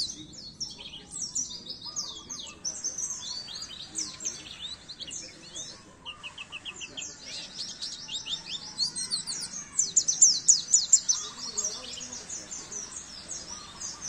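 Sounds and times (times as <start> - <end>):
bird chirping song: 0.0 - 14.0.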